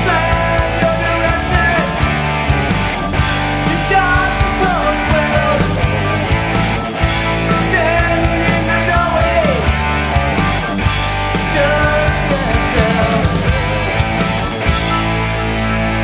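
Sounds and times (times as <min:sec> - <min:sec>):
drums hitting: 0:00.0 - 0:15.6
bass guitar: 0:00.0 - 0:16.0
distorted electric guitars: 0:00.0 - 0:16.0.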